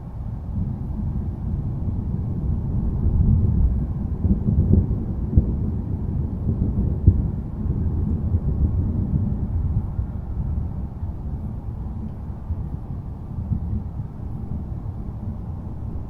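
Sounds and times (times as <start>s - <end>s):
thunder rumbling: 0.4s - 16.0s.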